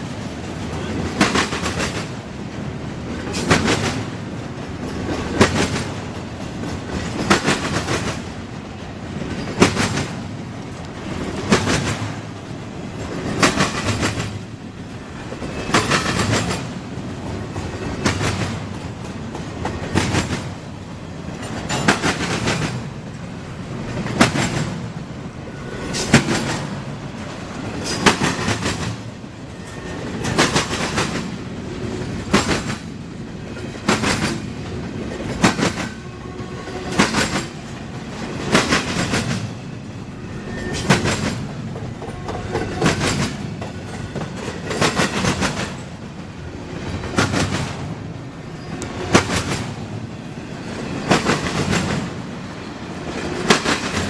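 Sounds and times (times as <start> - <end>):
freight train rumbling: 0.0 - 54.0
train wheels clattering: 0.0 - 54.0.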